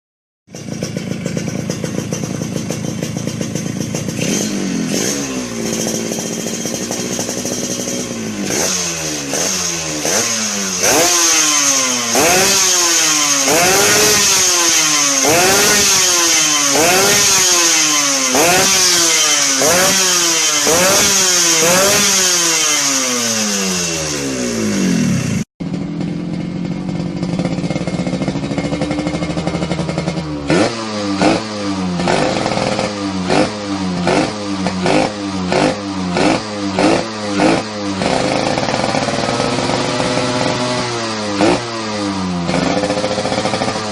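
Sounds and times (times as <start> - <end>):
two-stroke motorcycle engine revving: 0.5 - 43.9.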